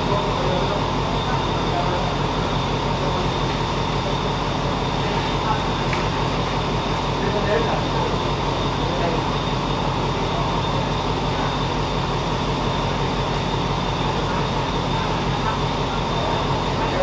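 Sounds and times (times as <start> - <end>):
train humming with droning whine: 0.0 - 17.0.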